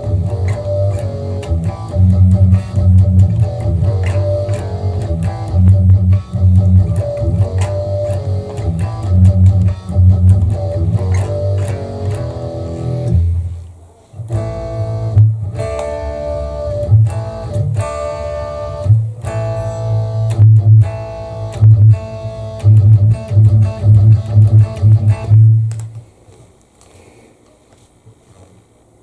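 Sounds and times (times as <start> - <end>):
electric guitar chords with boomy bass: 0.0 - 13.6, 14.2 - 25.9.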